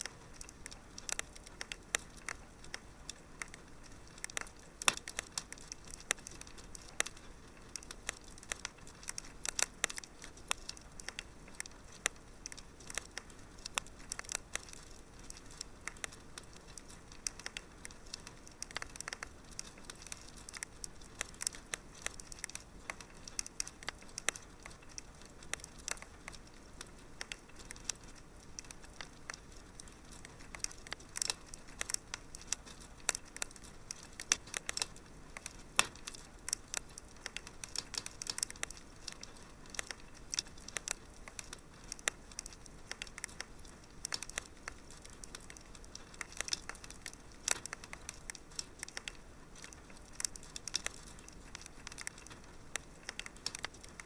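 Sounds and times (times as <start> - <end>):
faint fire hiss: 0.0 - 54.0
wood fire crackling: 0.0 - 54.0.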